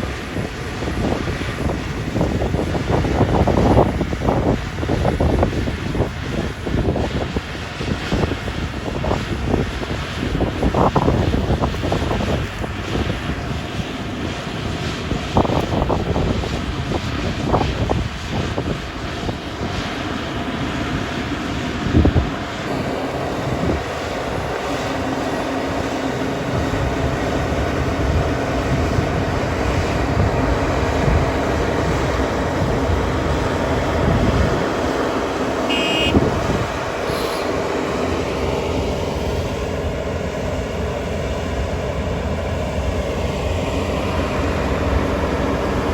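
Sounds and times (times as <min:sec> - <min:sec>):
combine harvester drone: 0:00.0 - 0:45.9.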